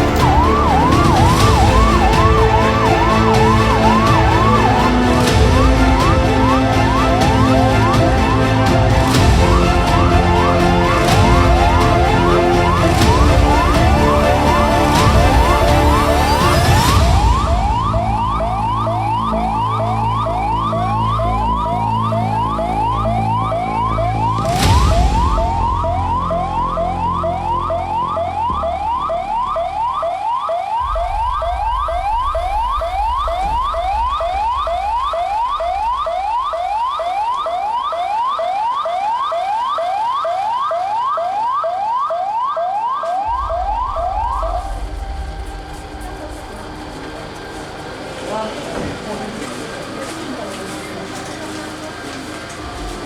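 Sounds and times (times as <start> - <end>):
emergency siren wailing and yelping: 0.0 - 53.0.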